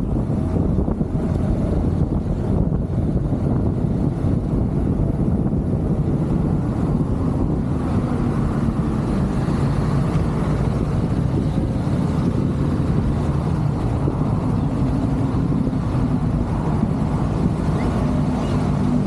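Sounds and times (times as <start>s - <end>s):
road and wind noise: 0.0s - 19.0s
vehicle engine drone: 0.0s - 19.0s.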